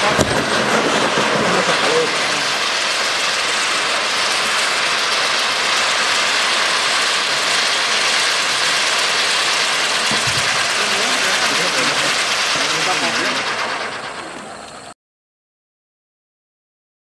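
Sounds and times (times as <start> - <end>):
fountain firework hissing: 0.0 - 15.0.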